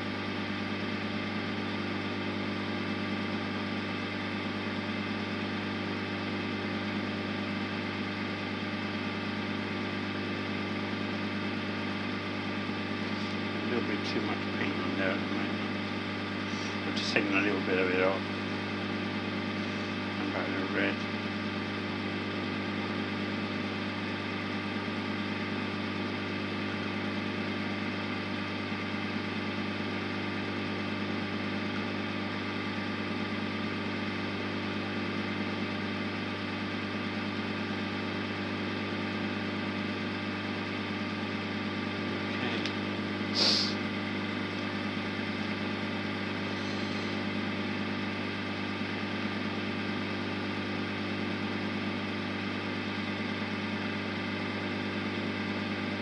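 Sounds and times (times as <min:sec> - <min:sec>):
wood lathe motor humming: 0:00.0 - 0:56.0.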